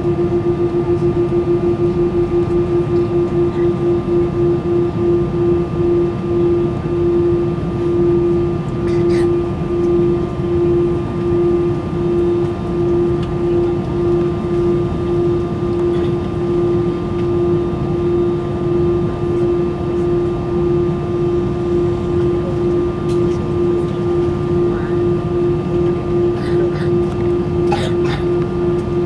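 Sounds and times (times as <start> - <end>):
jet engine drone: 0.0 - 29.0.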